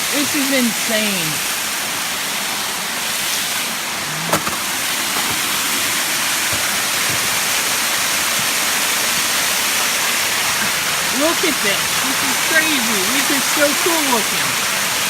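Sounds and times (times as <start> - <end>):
waterfall: 0.0 - 15.0.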